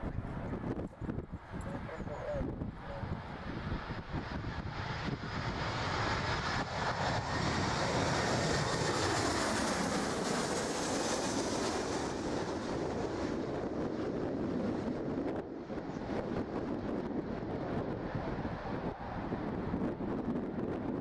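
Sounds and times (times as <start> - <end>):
jet airliner flying overhead: 0.0 - 21.0.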